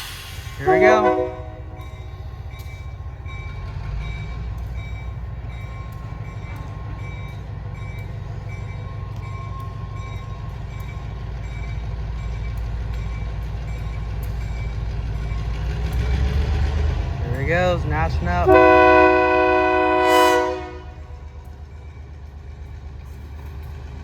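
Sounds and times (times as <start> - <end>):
diesel locomotive rumbling: 0.0 - 24.0.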